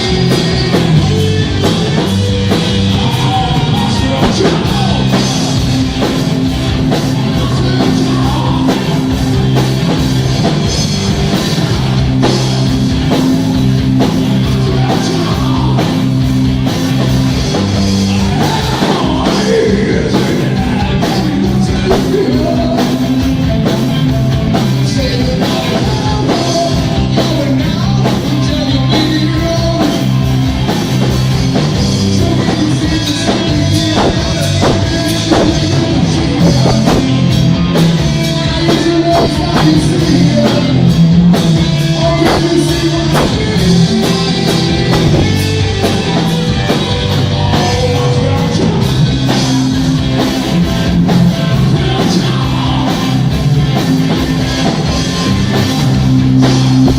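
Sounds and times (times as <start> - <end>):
person singing: 0.0 - 6.1, 7.0 - 9.8, 11.2 - 16.3, 18.0 - 31.0, 32.0 - 50.0, 50.8 - 53.4
loud rock music: 0.0 - 56.9.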